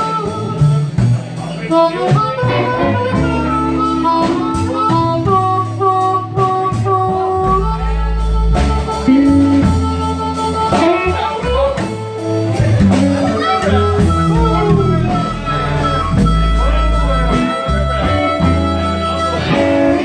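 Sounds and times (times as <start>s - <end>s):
amplified harmonica: 0.0s - 20.0s
drums: 0.0s - 20.0s
electric guitar: 0.0s - 20.0s
upright bass: 0.0s - 20.0s.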